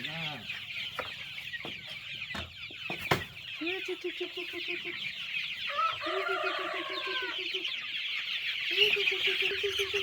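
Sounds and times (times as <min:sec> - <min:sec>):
chicken clucking: 0:00.0 - 0:10.0
chicks peeping: 0:00.0 - 0:10.0.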